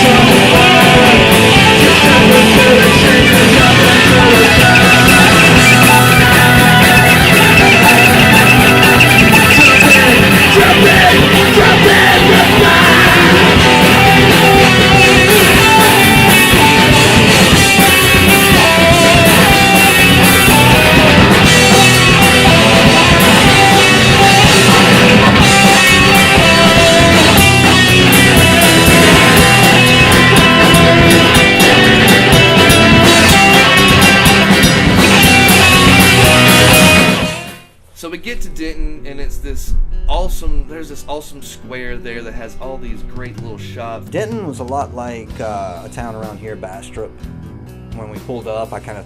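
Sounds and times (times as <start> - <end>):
loud rock band music: 0.0 - 37.8, 41.6 - 49.0
guitar: 0.0 - 49.0.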